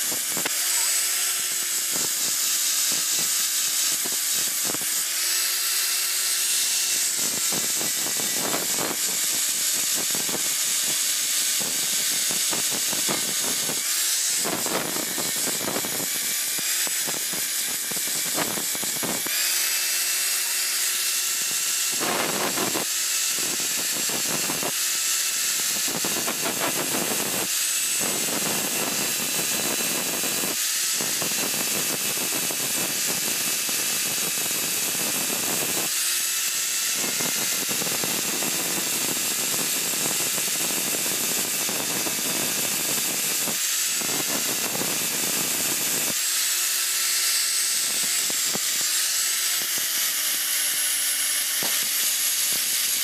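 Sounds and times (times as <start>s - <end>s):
angle grinder motor whine: 0.0s - 53.0s
grinding wheel rasping on steel: 0.0s - 53.0s.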